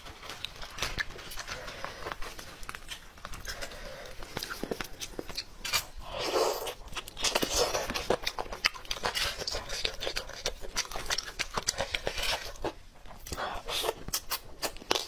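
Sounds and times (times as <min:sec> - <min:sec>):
chewing meat: 0:00.0 - 0:15.0.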